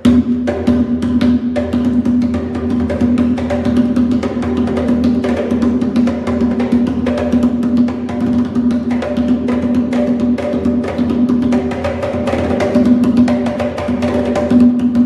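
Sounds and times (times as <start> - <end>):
drums playing fast rhythm: 0.0 - 15.0.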